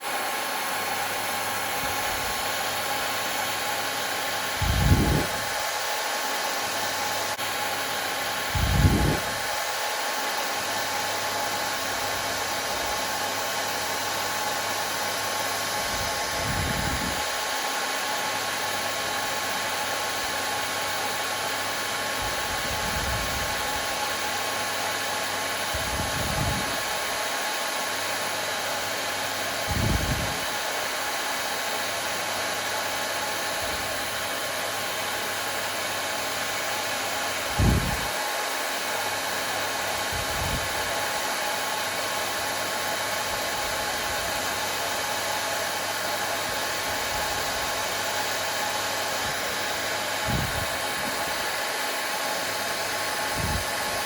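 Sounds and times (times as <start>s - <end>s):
hair dryer whirring: 0.0s - 54.0s.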